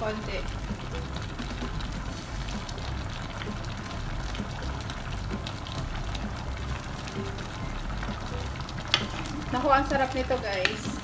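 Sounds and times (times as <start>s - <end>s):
liquid boiling with pops: 0.0s - 11.0s.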